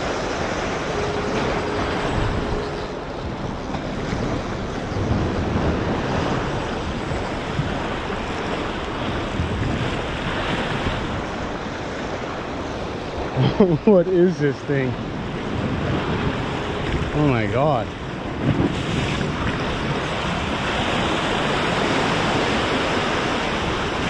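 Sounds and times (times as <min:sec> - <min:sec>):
surf splashing against rocks: 0:00.0 - 0:24.0
wind buffeting microphone: 0:00.0 - 0:24.0.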